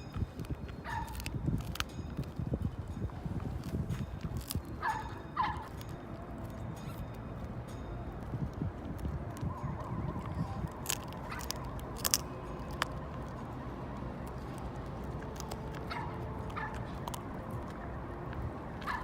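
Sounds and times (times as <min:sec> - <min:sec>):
dog chewing: 0:00.0 - 0:18.0
teeth crunching and clicking: 0:00.0 - 0:19.0.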